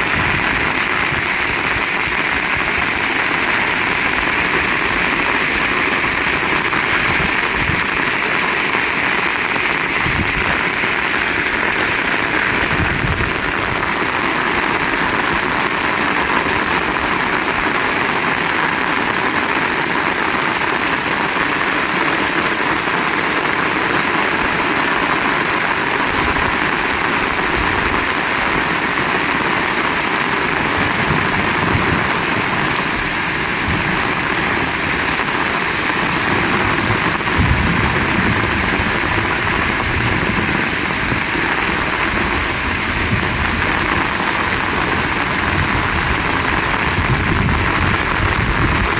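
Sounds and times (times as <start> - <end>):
heavy rain in strong wind: 0.0 - 48.9.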